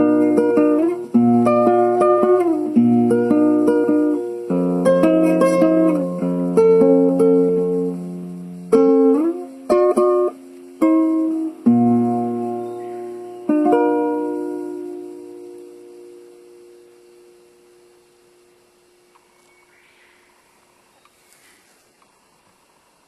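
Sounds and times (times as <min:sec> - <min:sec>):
plucked string instrument melody: 0:00.0 - 0:19.2.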